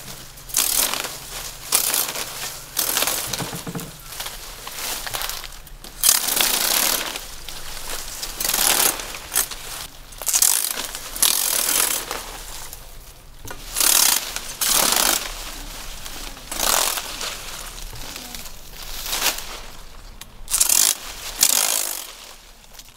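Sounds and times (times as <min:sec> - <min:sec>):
blade rasping through dry palm: 0:00.0 - 0:12.8, 0:13.5 - 0:22.9.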